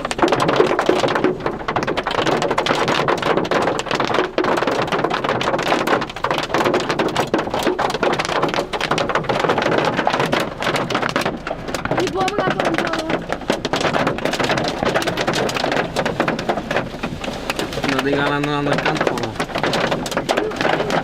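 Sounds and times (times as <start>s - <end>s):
heavy rain in strong wind: 2.0s - 21.0s.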